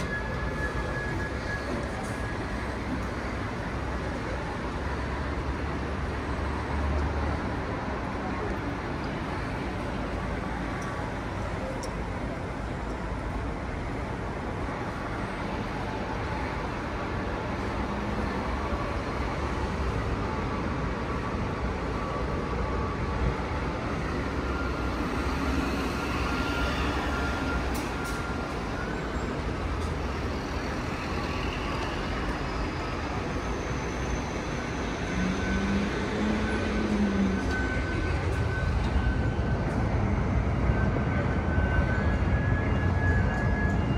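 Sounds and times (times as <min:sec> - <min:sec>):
road traffic noise: 0:00.0 - 0:43.9.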